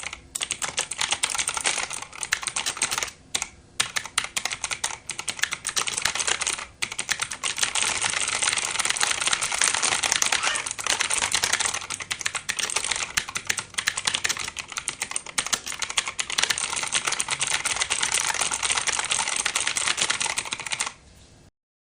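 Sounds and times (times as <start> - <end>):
mechanical keyboard typing: 0.0 - 21.0.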